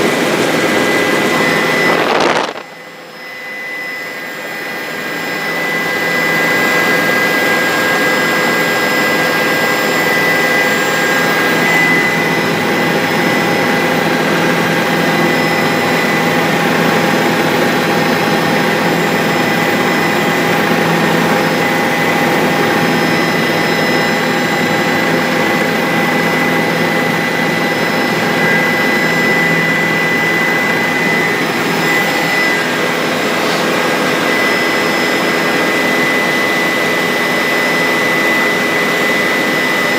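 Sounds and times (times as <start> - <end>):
helicopter engine and rotors roaring: 0.0 - 39.9.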